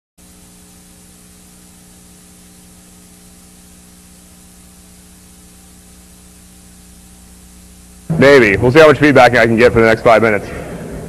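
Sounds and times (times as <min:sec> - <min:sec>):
low electrical hum: 0:00.2 - 0:11.0
steady hiss: 0:00.2 - 0:11.0.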